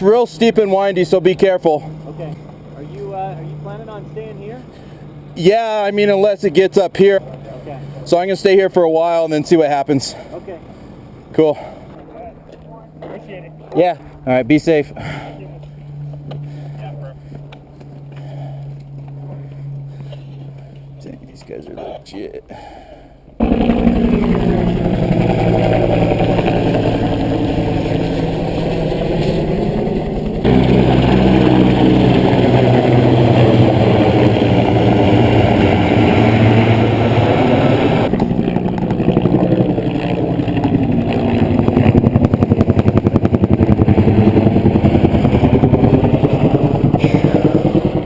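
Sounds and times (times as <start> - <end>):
helicopter flying past: 0.0 - 48.0.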